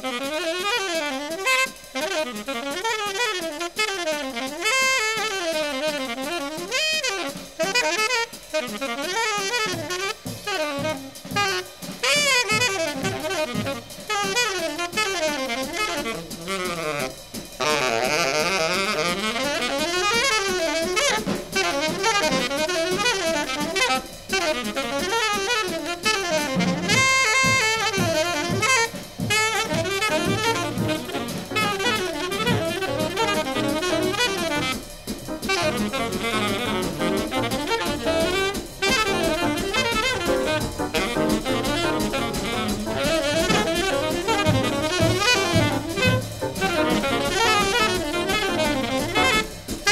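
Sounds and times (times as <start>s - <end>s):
brass: 0.0s - 49.9s
drum kit: 0.0s - 49.9s
jazz combo playing: 0.0s - 49.9s
saxophone lead: 0.0s - 49.9s.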